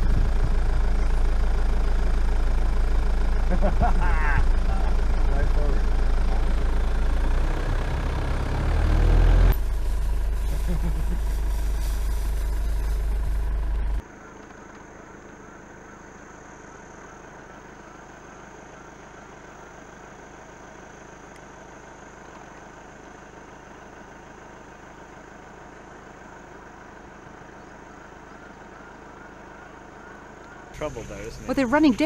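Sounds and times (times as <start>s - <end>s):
engine and road noise rumbling: 0.0s - 32.0s
engine idling: 0.0s - 32.0s.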